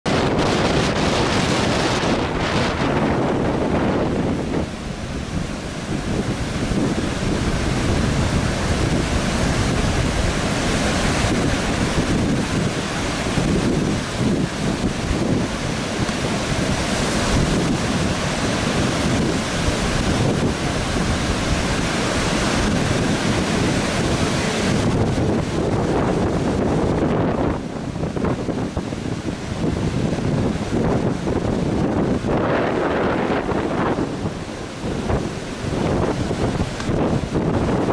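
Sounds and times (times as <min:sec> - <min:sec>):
surf breaking on a beach: 0:00.0 - 0:37.9
wind buffeting microphone: 0:00.0 - 0:37.9.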